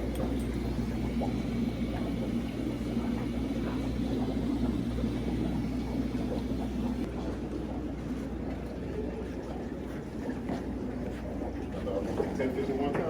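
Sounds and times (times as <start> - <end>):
low mechanical hum and rumble: 0.0 - 13.0.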